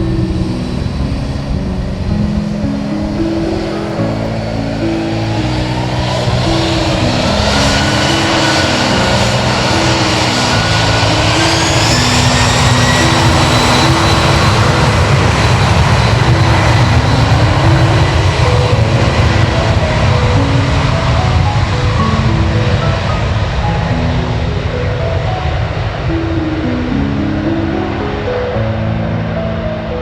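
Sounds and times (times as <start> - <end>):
jet engines spooling up: 0.0 - 29.8
background music: 0.0 - 30.0.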